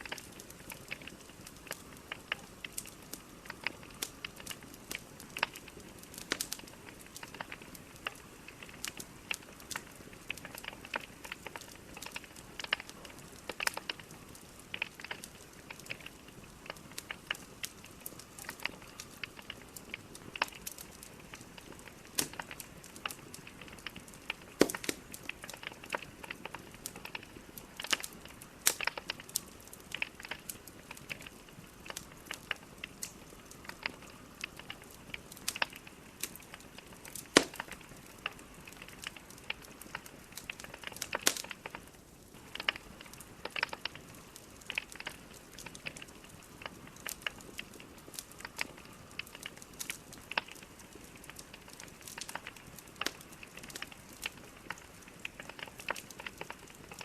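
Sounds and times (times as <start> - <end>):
faint steady hiss: 0.0 - 57.0
logs crackling and popping: 0.0 - 57.0.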